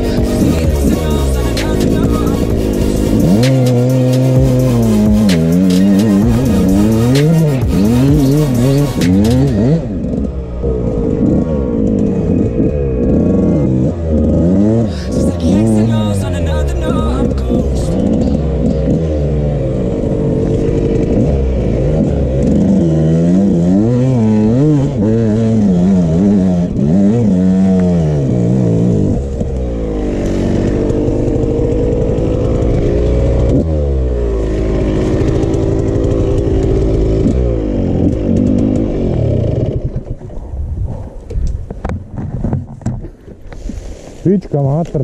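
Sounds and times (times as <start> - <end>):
dirt bike engine revving: 0.0 - 40.2.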